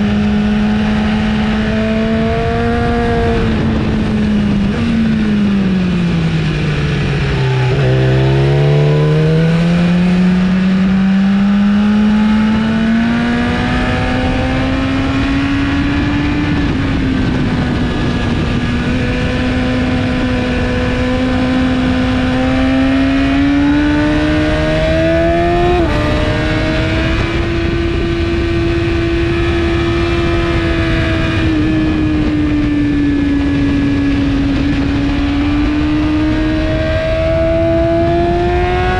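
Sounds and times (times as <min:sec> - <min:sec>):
motorcycle engine revving: 0:00.0 - 0:38.9
wind rushing over microphone: 0:00.0 - 0:38.9.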